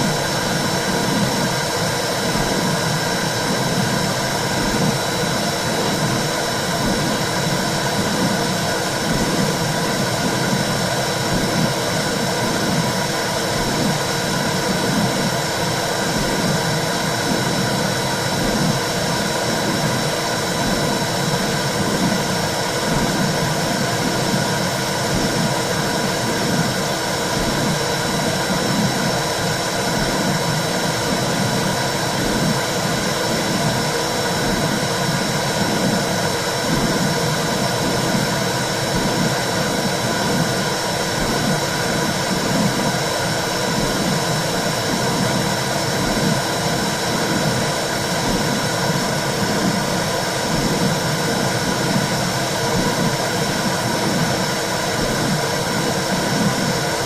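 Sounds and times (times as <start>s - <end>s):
rhythmic low pulse: 0.0s - 57.0s.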